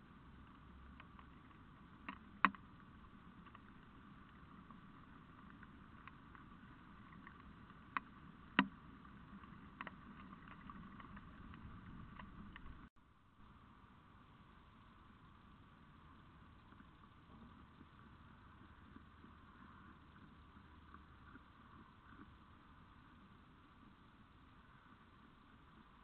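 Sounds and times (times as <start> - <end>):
faint microphone hiss: 0.0 - 26.0.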